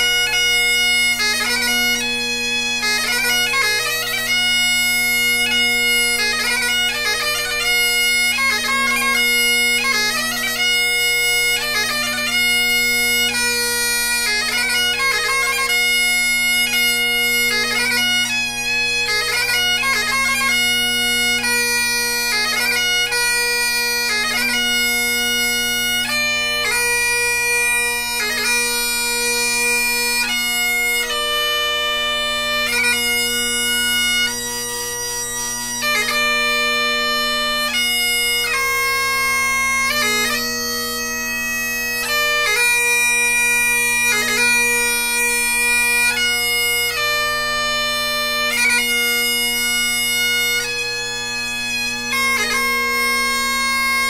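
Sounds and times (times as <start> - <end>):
bagpipe chanter melody: 0.0 - 54.0
bagpipe drones humming: 0.0 - 54.0.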